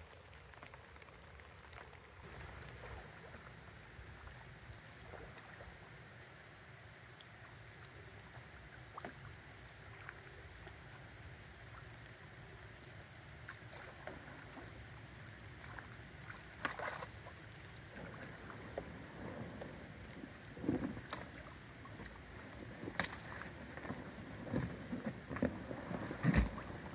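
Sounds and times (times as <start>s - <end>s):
paddle splashing and dripping: 0.0s - 26.9s
steady background hiss: 0.0s - 26.9s.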